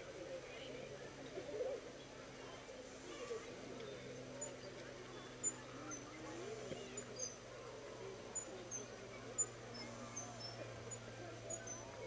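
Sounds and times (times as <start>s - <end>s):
murmur of distant voices: 0.0s - 12.0s.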